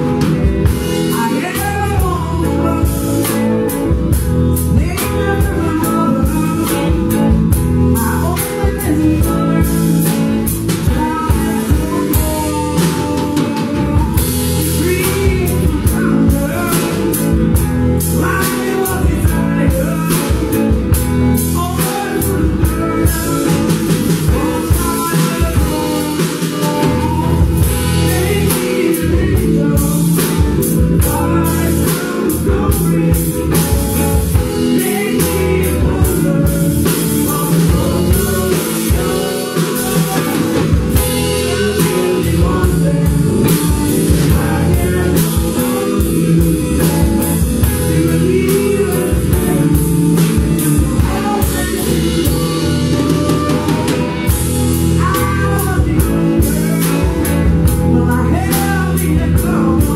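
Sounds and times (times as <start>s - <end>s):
woman singing: 0.0s - 3.9s, 4.6s - 59.9s
bass guitar: 0.0s - 59.9s
drum kit: 0.0s - 59.9s
electric guitar: 0.0s - 59.9s.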